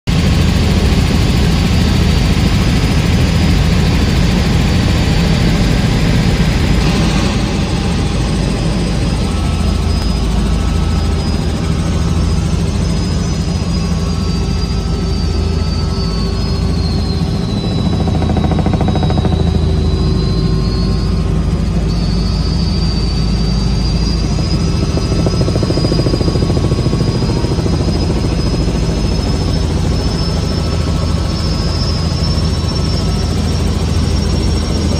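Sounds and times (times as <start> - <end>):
helicopter engine and rotor drone: 0.1 - 34.9
high-pitched whine: 0.1 - 34.9.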